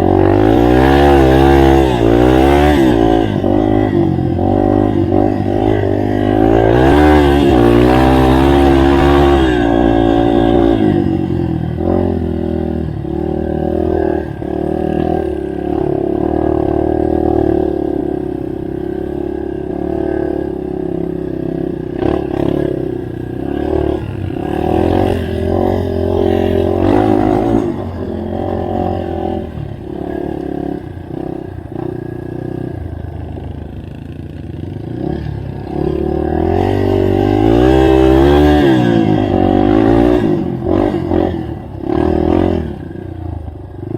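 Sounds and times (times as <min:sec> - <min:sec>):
motorbike engine revving: 0:00.0 - 0:43.9.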